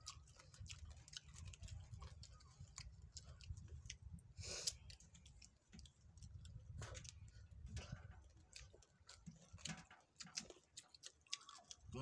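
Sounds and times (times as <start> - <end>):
chewing with lip smacks: 0.0 - 12.0.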